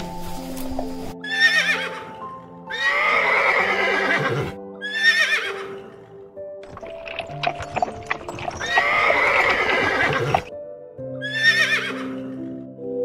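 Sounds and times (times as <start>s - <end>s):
soft background music: 0.0s - 13.0s
horse whinnying: 1.2s - 10.5s, 11.2s - 12.4s.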